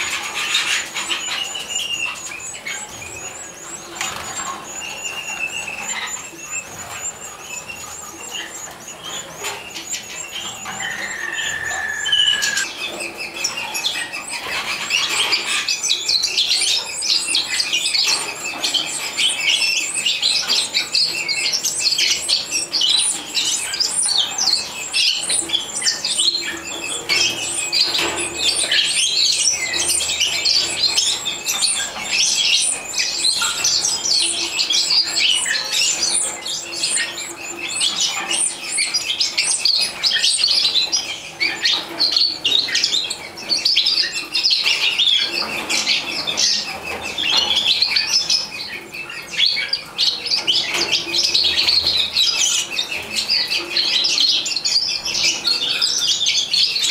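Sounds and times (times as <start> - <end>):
bird chicks chirping: 0.0 - 56.9.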